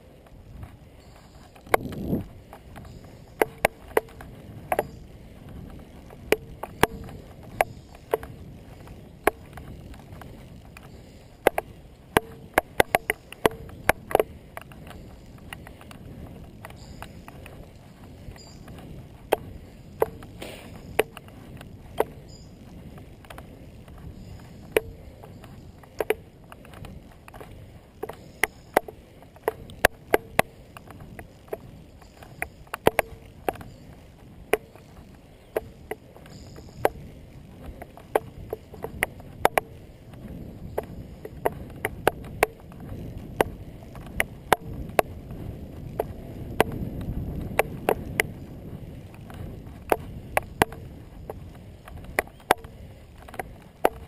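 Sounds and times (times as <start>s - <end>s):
bicycle frame knocks and rattles: 0.0s - 54.0s
wind: 0.0s - 54.0s.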